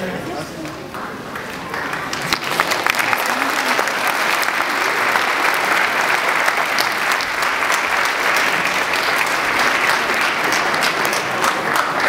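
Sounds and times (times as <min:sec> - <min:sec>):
congregation applauding: 0:00.6 - 0:12.0.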